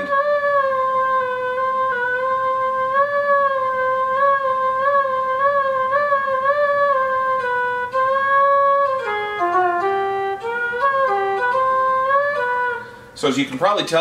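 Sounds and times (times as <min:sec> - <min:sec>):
synthesized flute note wavering: 0:00.0 - 0:13.7.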